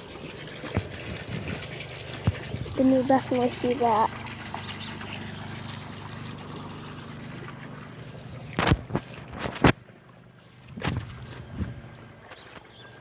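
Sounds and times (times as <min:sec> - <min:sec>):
water trickling: 0:00.0 - 0:12.2.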